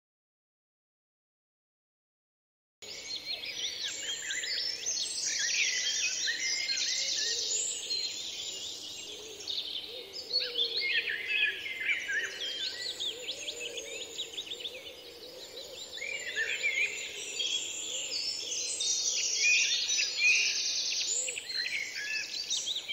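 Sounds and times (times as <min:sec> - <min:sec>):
songbirds chirping and trilling: 0:02.8 - 0:22.9.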